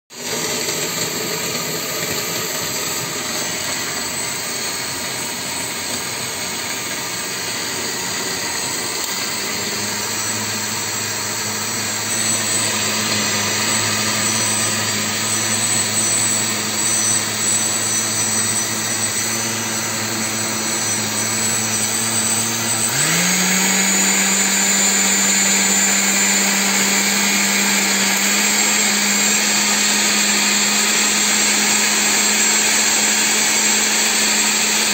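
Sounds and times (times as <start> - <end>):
blender motor running: 0.1 - 34.9.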